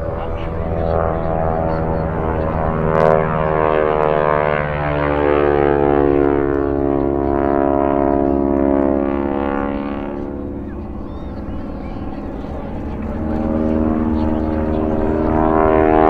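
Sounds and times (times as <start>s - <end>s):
biplane radial engine drone: 0.0s - 16.0s.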